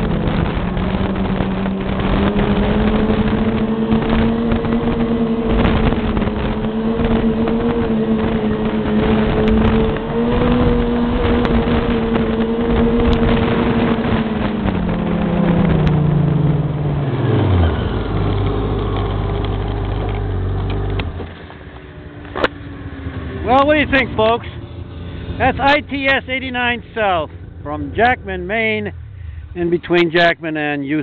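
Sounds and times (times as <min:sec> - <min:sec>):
snowmobile engine: 0:00.0 - 0:31.0.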